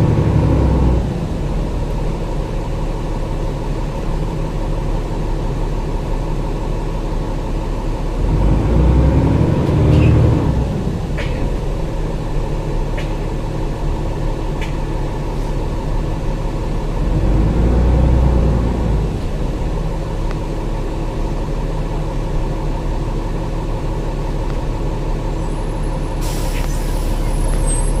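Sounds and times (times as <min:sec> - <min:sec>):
bus diesel engine rumbling: 0:00.0 - 0:28.0.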